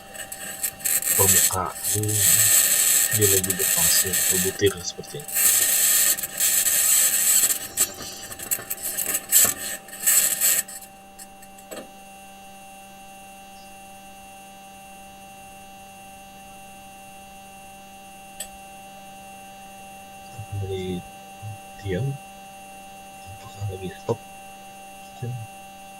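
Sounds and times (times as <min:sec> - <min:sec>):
steady electrical hum: 0:00.0 - 0:25.9.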